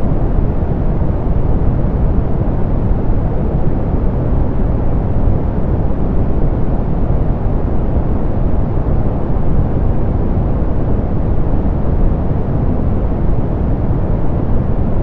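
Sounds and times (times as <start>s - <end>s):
muffled pink noise hiss: 0.0s - 15.0s.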